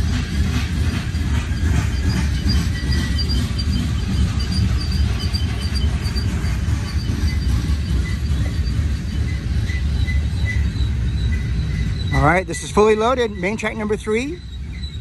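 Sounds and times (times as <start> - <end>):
faint high wheel squeals: 0.0 - 15.0
train wheels rumbling on rail: 0.0 - 15.0.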